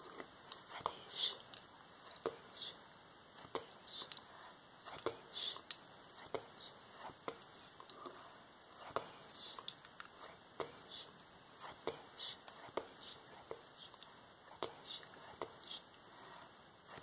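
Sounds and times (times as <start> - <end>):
close-up whispering: 0.0 - 17.0.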